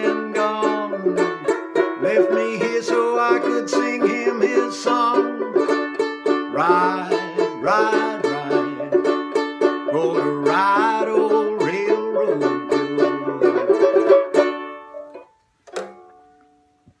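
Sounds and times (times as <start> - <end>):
banjo ukulele strumming: 0.0 - 16.6.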